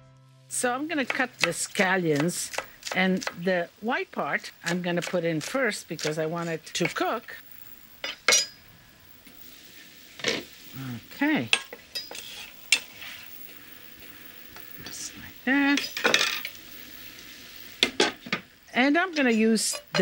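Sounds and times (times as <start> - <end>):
vegetables sizzling in a skillet: 0.4 - 20.0.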